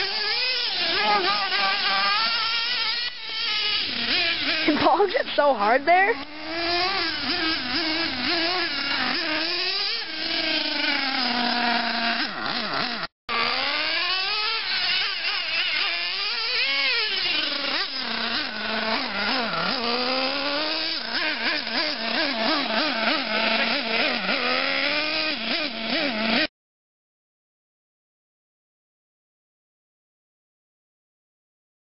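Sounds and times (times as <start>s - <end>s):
model truck engine revving: 0.0s - 26.5s.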